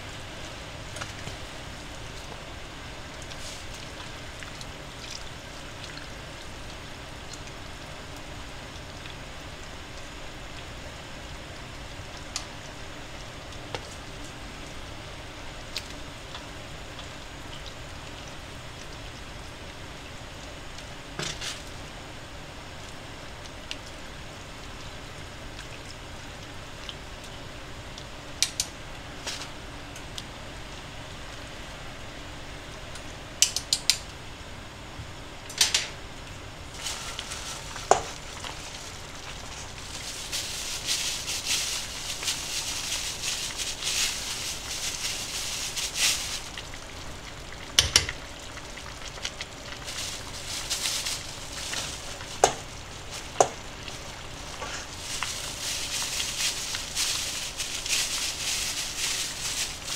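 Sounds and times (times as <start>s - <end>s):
soup bubbling in a pot: 0.0s - 59.9s.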